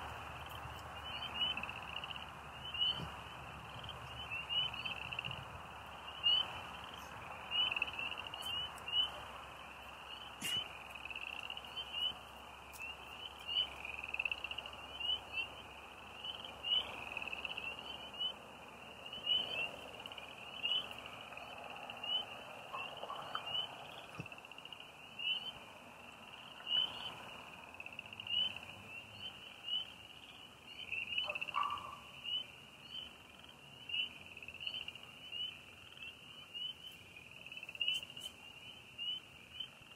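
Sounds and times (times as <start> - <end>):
frogs chirping chorus: 0.0 - 39.9.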